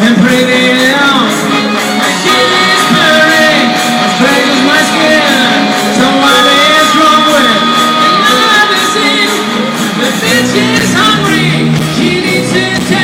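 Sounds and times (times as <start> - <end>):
rock music with singing and guitar: 0.0 - 13.0.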